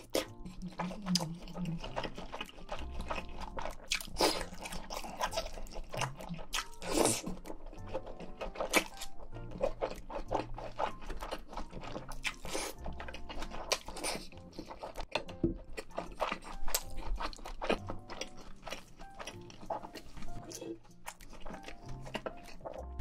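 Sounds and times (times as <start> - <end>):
chewing and crunching food: 0.0 - 23.0
soft background music: 0.0 - 23.0.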